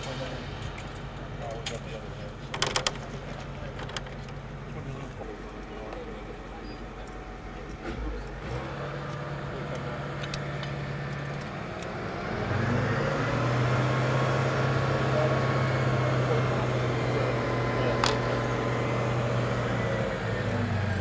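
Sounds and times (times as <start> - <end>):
crane engine running: 0.0 - 21.0.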